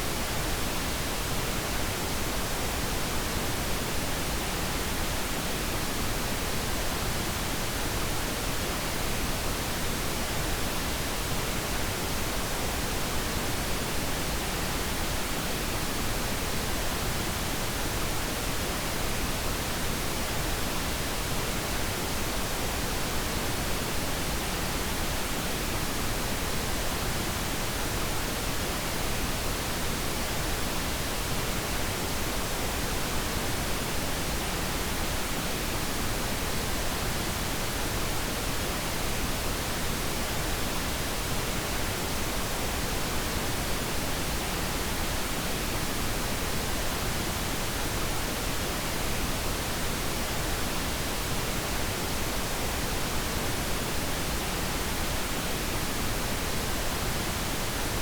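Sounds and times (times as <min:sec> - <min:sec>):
steady hiss noise: 0:00.0 - 0:58.0.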